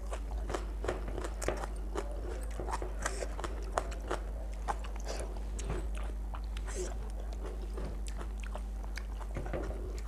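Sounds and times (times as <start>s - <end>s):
wet chewing and smacking: 0.0s - 10.0s.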